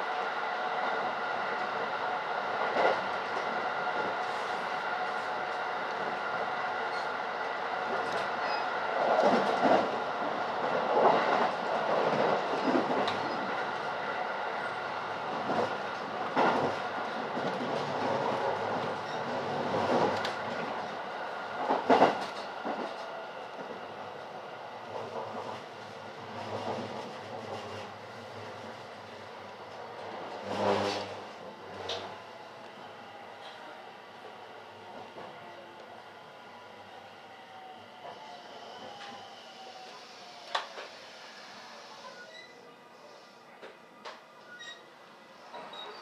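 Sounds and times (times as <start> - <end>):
train rumble and humming: 0.0 - 42.5.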